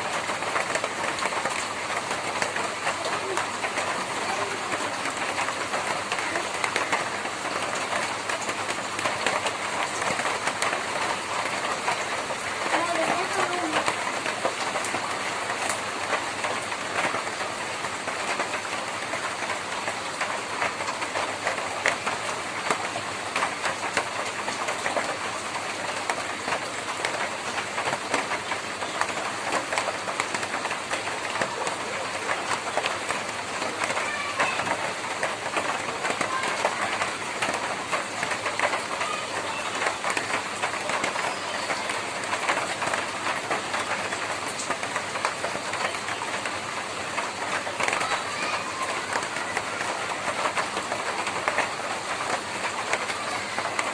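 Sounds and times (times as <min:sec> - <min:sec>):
rain on a tin roof: 0:00.0 - 0:53.9.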